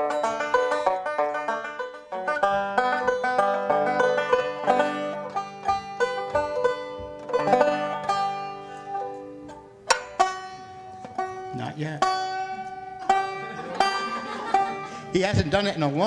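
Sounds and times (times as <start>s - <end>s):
banjo playing: 0.0s - 16.0s.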